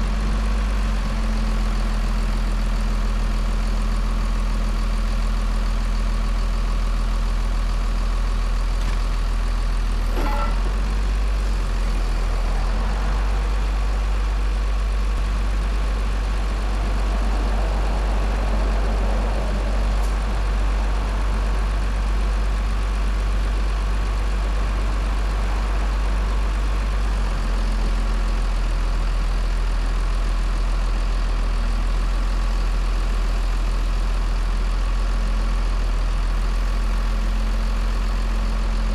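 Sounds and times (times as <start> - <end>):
crane engine idling: 0.0 - 38.9.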